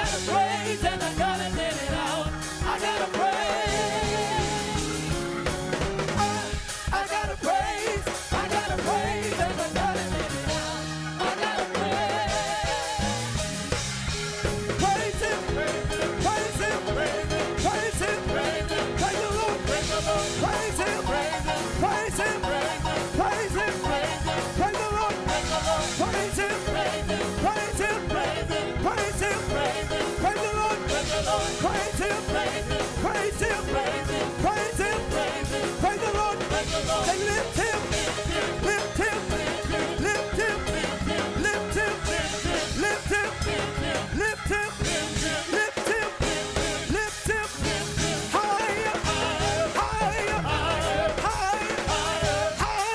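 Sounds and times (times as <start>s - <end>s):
singing: 0.0s - 5.3s, 6.2s - 13.4s, 14.7s - 52.9s
band playing gospel music: 0.0s - 52.9s
drum kit beat: 0.0s - 52.9s.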